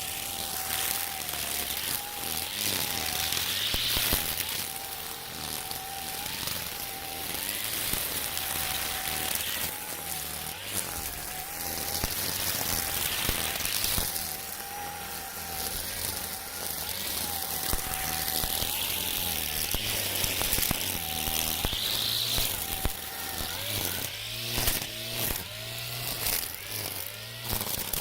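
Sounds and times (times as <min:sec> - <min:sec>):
brush cutter motor whining: 0:00.0 - 0:28.0
trimmer line striking stems: 0:00.1 - 0:28.0.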